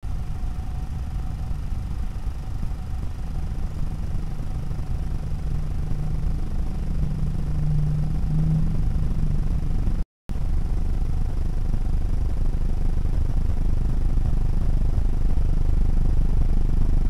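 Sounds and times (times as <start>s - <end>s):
faint steady whine: 0.1s - 17.0s
low rumbling background noise: 0.1s - 17.0s
steady low hum: 0.1s - 17.0s.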